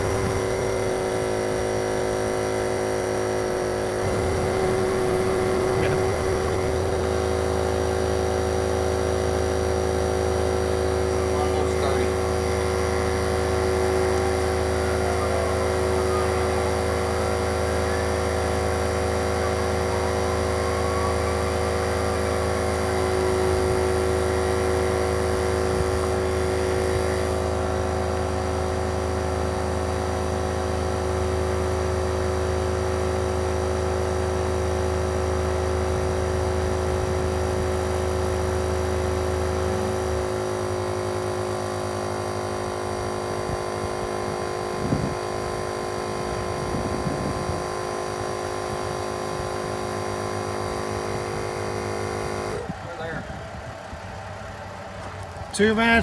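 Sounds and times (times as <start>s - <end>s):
portable air compressor running: 0.0s - 56.0s.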